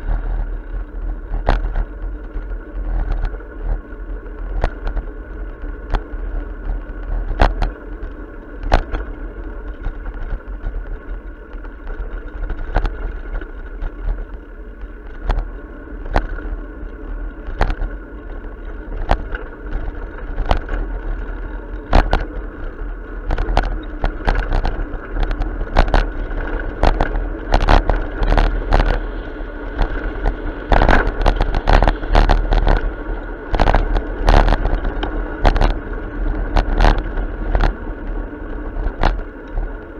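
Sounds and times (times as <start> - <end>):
bicycle clicks and knocks: 0.0 - 39.9
bicycle tyres and wind rumble: 0.0 - 39.9.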